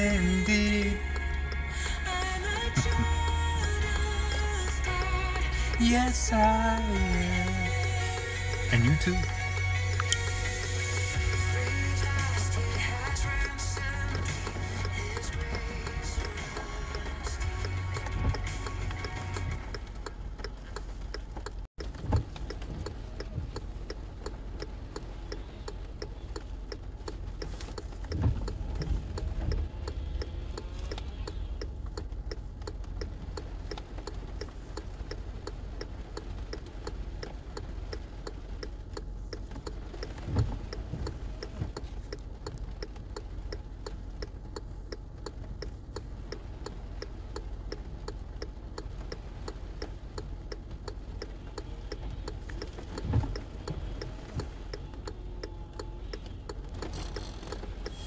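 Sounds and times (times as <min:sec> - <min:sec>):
car indicator ticking: 0:00.0 - 0:58.0
low steady rumble: 0:00.0 - 0:58.0.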